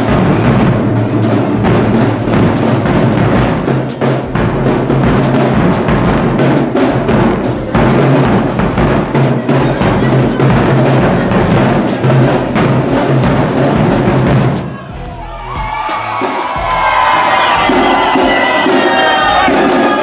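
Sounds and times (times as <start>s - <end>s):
drums: 0.0s - 20.0s
marching band playing: 0.0s - 20.0s.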